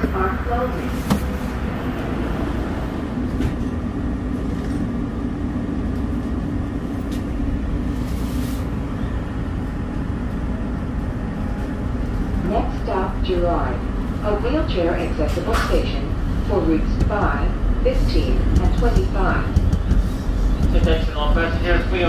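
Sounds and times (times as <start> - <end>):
train rumble and hum: 0.0 - 22.0.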